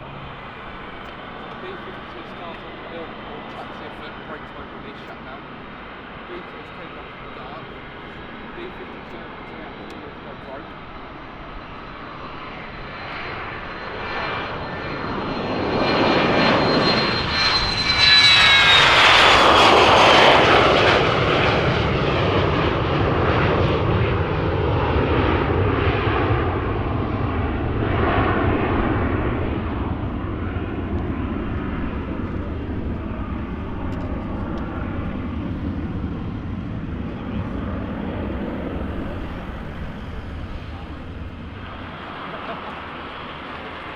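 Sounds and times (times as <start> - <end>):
airliner passing with engine whine: 0.0 - 43.9.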